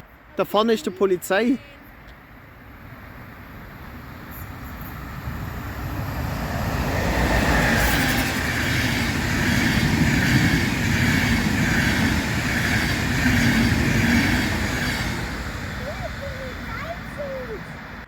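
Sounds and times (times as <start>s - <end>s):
train passing: 0.0s - 18.0s.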